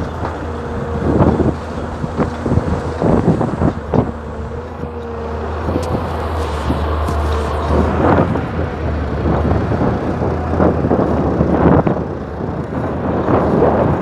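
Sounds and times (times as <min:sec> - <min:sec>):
excavator diesel engine hum: 0:00.0 - 0:14.0.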